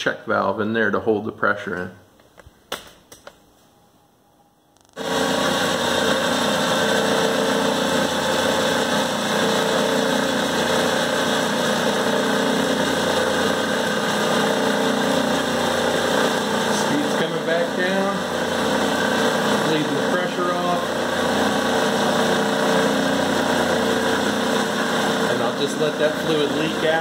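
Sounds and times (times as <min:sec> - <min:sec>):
lathe motor and belt drive running: 0:04.9 - 0:27.0.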